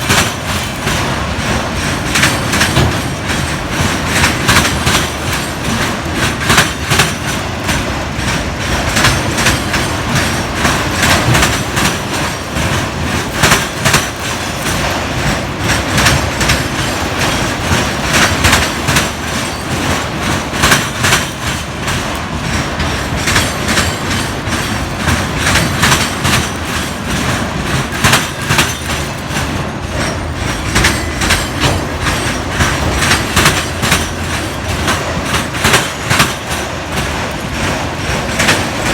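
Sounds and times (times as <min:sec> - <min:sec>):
train rumble: 0:00.0 - 0:38.9
train wheels clacking over rail joints: 0:00.0 - 0:38.9.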